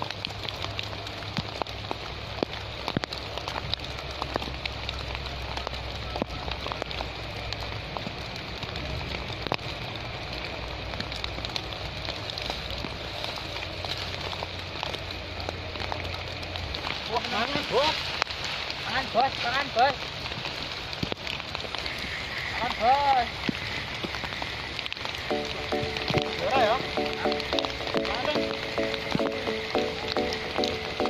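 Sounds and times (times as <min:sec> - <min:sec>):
raindrops ticking on plastic cover: 0:00.0 - 0:31.0
steady rain: 0:00.0 - 0:31.0.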